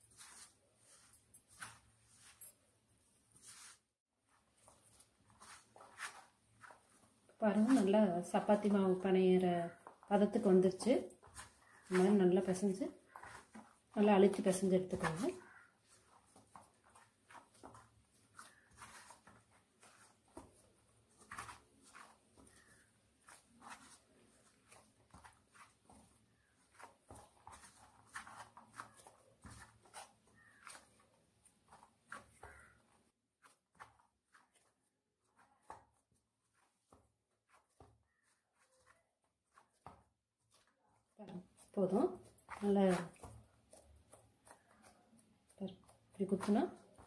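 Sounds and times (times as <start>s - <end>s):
dough squelching by hand: 0.0s - 47.0s.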